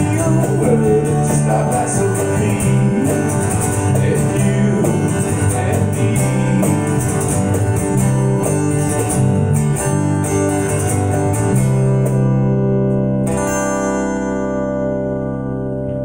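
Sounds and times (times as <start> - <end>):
acoustic guitar strummed: 0.0 - 16.0
electric bass: 0.0 - 16.0.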